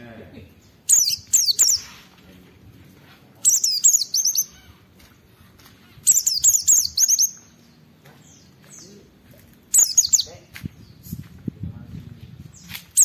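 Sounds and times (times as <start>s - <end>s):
white-eye bird song: 0.3s - 2.2s, 3.4s - 11.4s, 12.2s - 13.0s.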